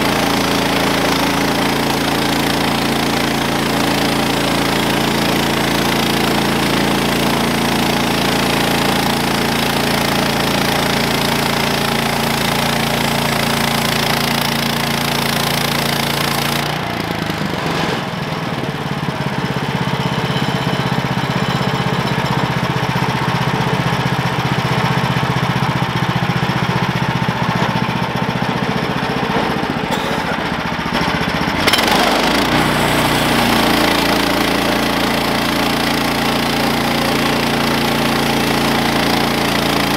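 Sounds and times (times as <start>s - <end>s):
sawmill engine running under load: 0.0s - 39.9s.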